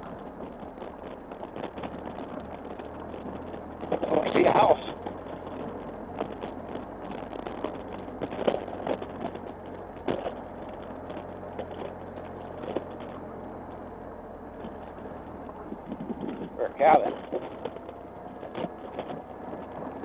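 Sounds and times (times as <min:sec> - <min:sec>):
motorcycle engine running low: 0:00.0 - 0:20.0
tyres crunching over rocks: 0:00.0 - 0:20.0.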